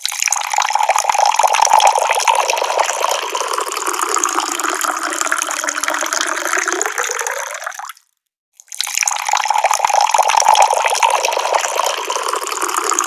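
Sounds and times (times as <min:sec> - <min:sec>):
water pouring from a tap: 0:00.0 - 0:08.0, 0:08.6 - 0:13.0.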